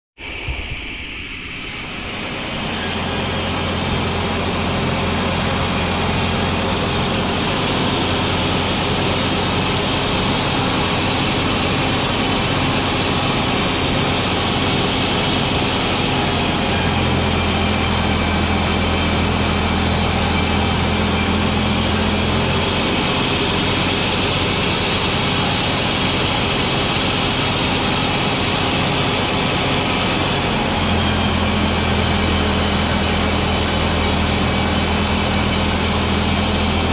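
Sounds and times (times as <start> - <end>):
sawmill machine droning: 0.2 - 36.9.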